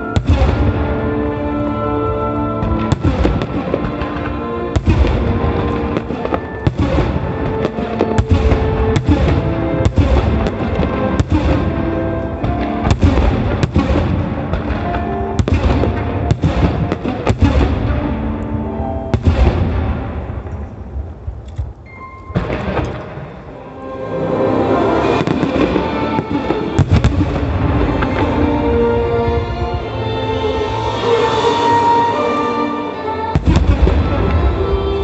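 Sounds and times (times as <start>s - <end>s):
fireworks bursting: 0.0s - 1.1s, 2.6s - 18.4s, 19.1s - 23.7s, 24.8s - 35.0s
music playing: 0.0s - 21.1s, 21.9s - 35.0s.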